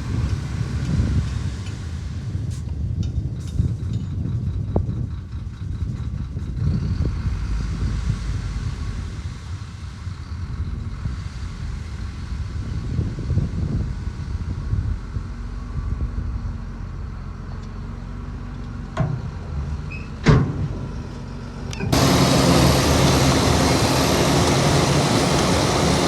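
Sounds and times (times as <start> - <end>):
heavy diesel engine rumbling: 0.0 - 26.0.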